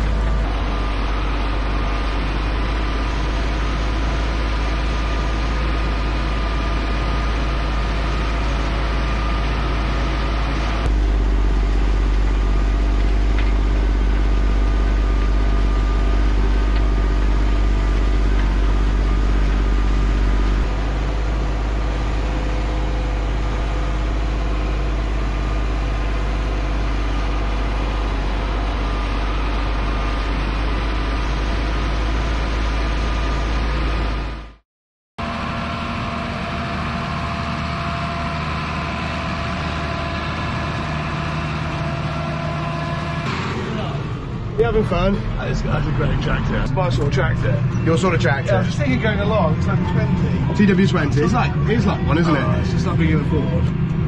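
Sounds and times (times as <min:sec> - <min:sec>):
tractor diesel engine running: 0:00.0 - 0:34.6, 0:35.2 - 0:54.0.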